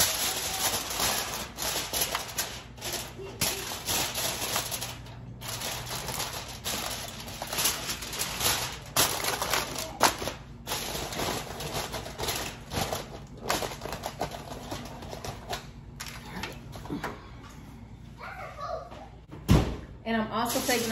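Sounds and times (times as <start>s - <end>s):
aluminium foil crinkling: 0.0s - 16.6s, 20.4s - 20.9s.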